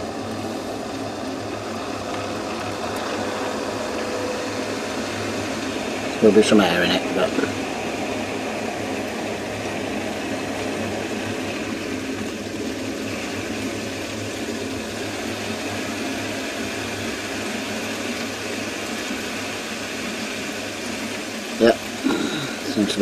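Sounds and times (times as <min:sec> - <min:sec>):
boiler whirring with low hum: 0:00.0 - 0:23.0.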